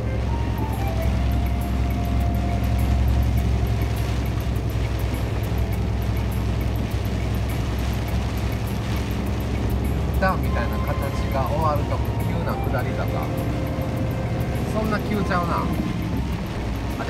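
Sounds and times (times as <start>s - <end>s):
background music with beat: 0.0s - 17.0s
truck diesel engine droning: 0.0s - 17.0s.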